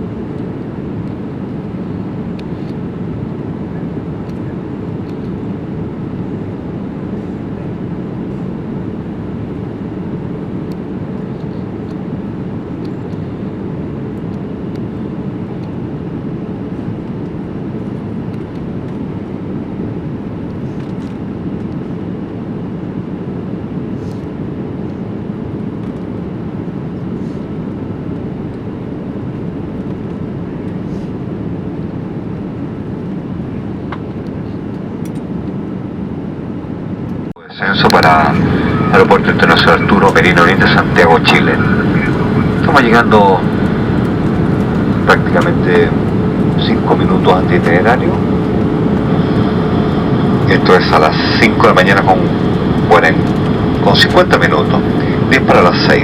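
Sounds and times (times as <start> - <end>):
aircraft cabin engine rush: 0.0 - 56.0
faint hum: 0.0 - 56.0.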